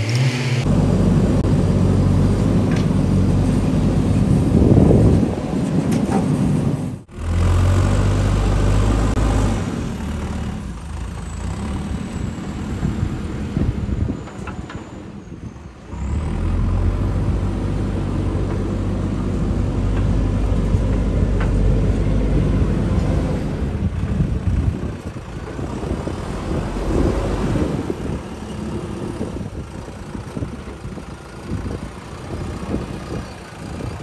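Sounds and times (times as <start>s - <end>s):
diesel engine running: 0.0s - 14.2s, 15.9s - 34.0s.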